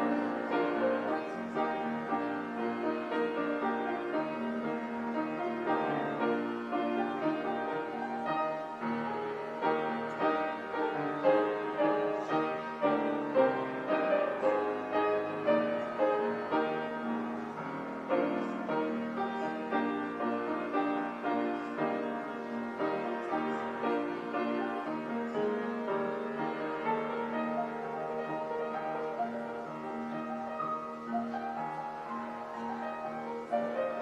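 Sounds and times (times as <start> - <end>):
slow piano piece: 0.0 - 34.0.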